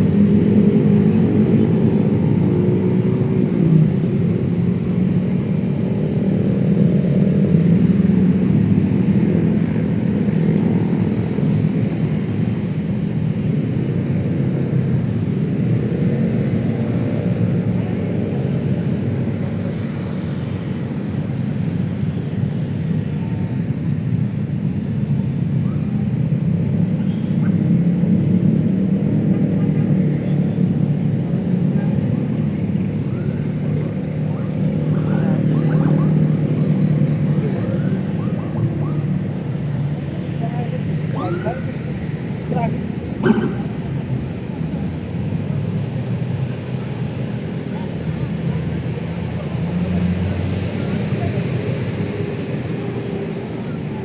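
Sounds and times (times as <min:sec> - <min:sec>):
cars and motorbikes passing: 0:00.0 - 0:54.0.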